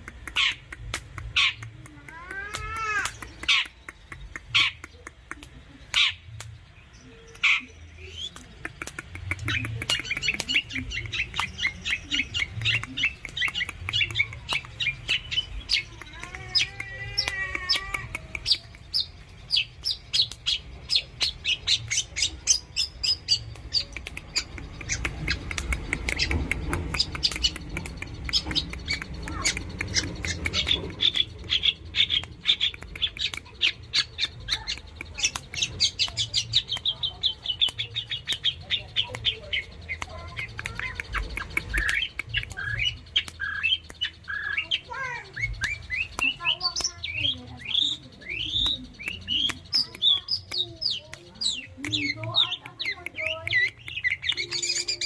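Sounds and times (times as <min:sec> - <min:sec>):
bird singing chattering notes: 0:00.0 - 0:55.0.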